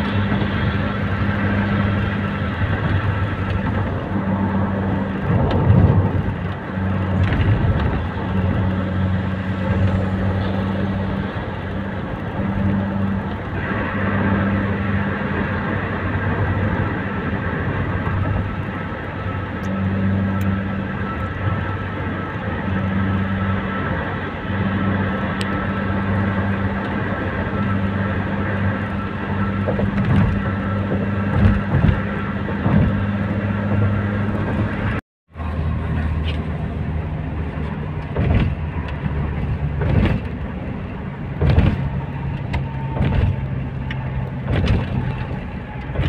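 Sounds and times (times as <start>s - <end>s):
tyre and engine drone: 0.0s - 46.0s.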